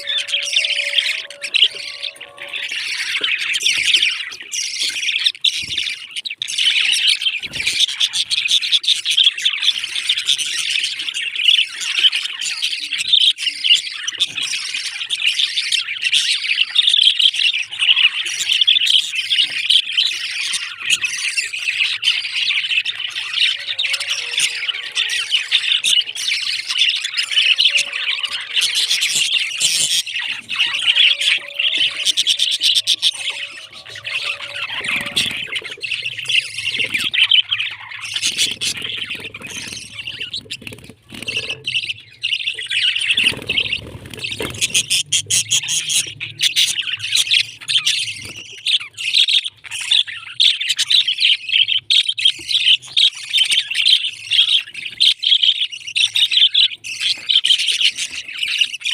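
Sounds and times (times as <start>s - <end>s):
parrots chirping and chattering: 0.0s - 58.9s.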